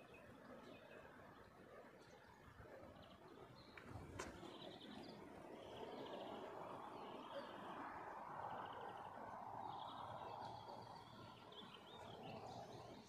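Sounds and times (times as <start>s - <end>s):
birds chirping trills: 0.0s - 13.0s.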